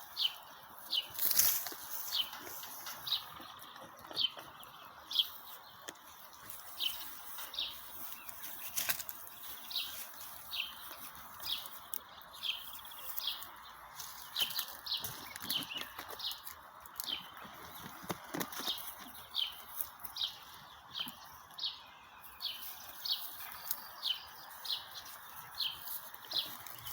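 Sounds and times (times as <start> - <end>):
bird chirping: 0.0 - 26.9
faint outdoor hiss: 0.0 - 26.9.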